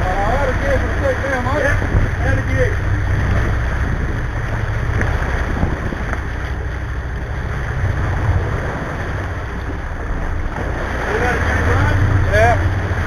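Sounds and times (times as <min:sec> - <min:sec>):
boat engine drone: 0:00.0 - 0:13.0
water churning along hull: 0:00.0 - 0:13.0
wind buffeting microphone: 0:00.0 - 0:13.0.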